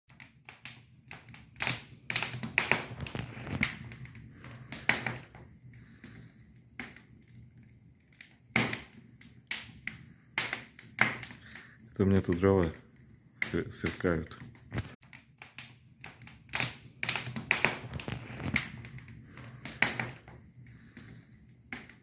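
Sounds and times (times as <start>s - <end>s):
firewood crackling and popping: 0.1s - 22.0s.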